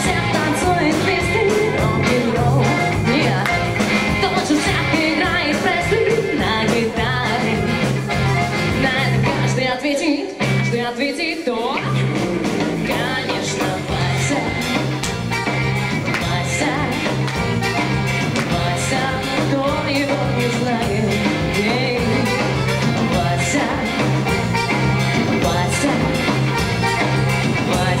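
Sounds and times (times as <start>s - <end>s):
accordion: 0.0s - 9.6s, 13.9s - 28.0s
live rock and roll band: 0.0s - 28.0s.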